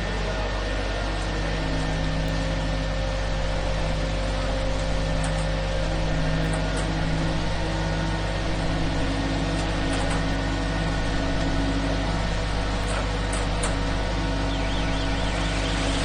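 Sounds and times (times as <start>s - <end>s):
concrete mixer engine drone: 0.0s - 16.0s.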